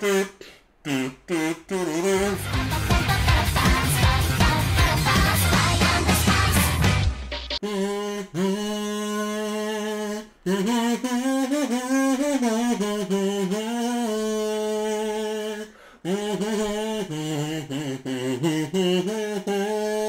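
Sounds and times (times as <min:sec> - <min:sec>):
kazoo buzzing a melody: 0:00.0 - 0:20.0.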